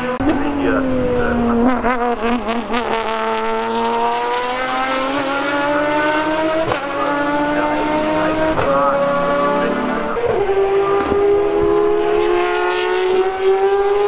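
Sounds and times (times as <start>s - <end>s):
exhaust crackles: 0.0s - 14.0s
race car engine accelerating: 0.0s - 14.0s.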